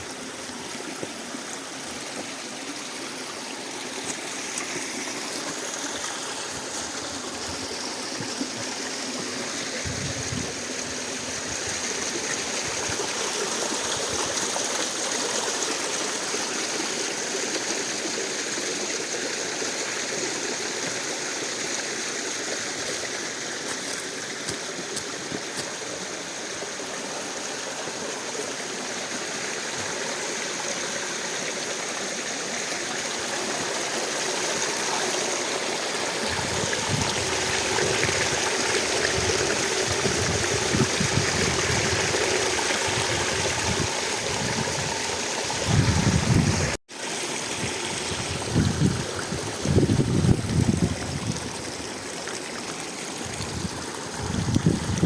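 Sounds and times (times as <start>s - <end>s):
mountain stream running: 0.0s - 55.0s.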